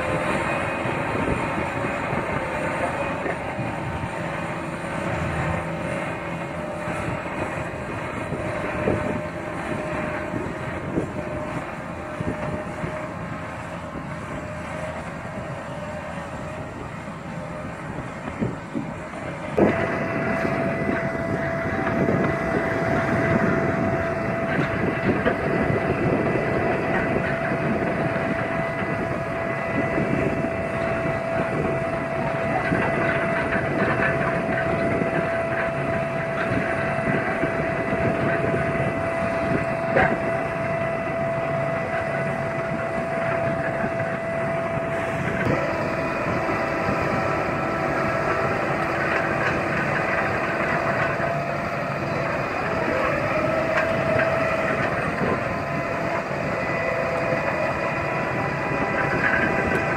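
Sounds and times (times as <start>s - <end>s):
constant machine whine: 0.0s - 59.9s
machinery rumble with tumbling beets: 0.0s - 59.9s.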